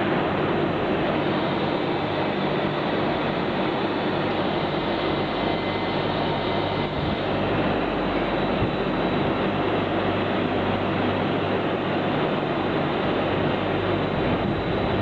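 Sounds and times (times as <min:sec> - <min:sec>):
welding machine hum: 0:00.0 - 0:15.0.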